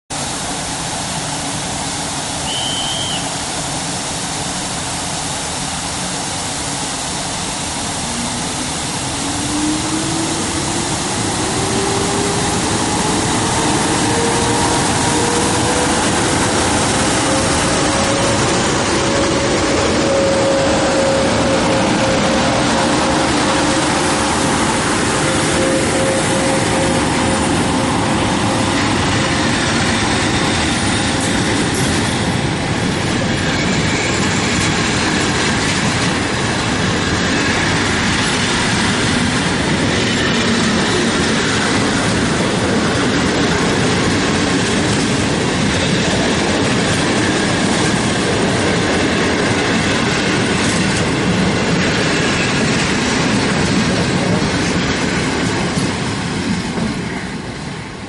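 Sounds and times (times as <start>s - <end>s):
train rushing noise: 0.1s - 58.0s.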